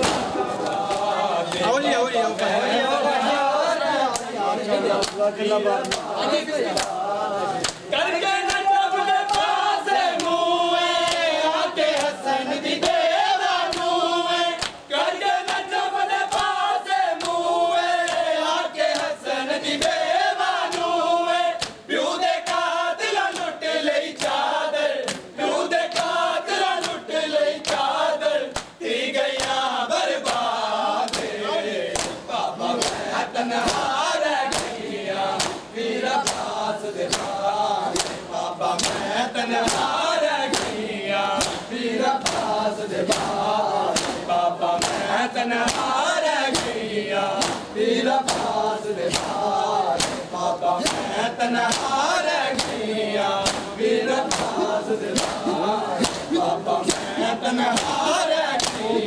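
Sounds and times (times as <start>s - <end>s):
hands slapping bare chests: 0.0s - 1.8s, 5.0s - 7.0s, 7.6s - 12.2s, 12.8s - 14.0s, 14.6s - 14.8s, 15.4s - 21.0s, 21.6s - 25.3s, 25.9s - 27.0s, 27.6s - 59.0s
men chanting in unison: 0.0s - 59.0s.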